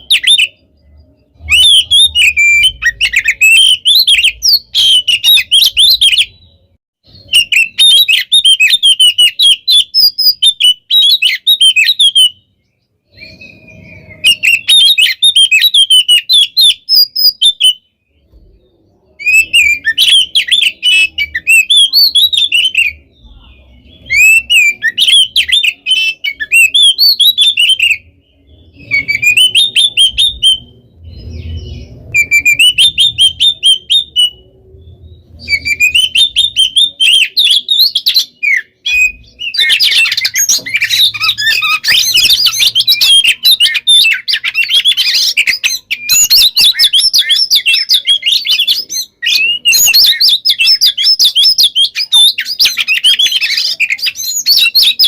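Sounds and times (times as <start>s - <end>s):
songbird singing rapid phrases: 0.0s - 55.0s.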